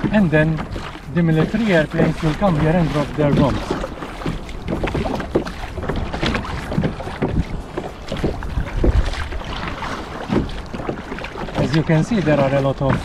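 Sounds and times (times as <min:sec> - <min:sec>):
water splashing against kayak hull: 0:00.0 - 0:13.0
wind rumbling on microphone: 0:00.0 - 0:13.0.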